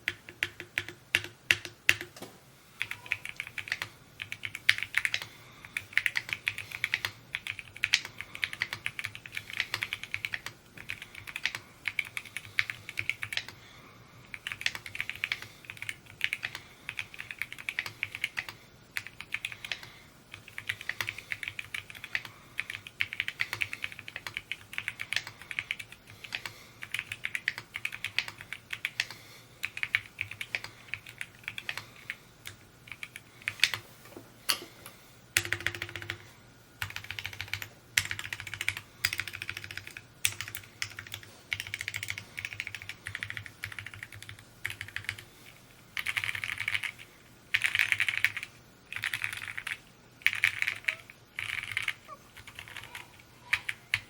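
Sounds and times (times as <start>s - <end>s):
mechanical keyboard typing: 0.0s - 2.2s, 2.8s - 13.6s, 14.3s - 33.8s, 35.4s - 36.2s, 36.8s - 45.3s, 46.0s - 54.0s.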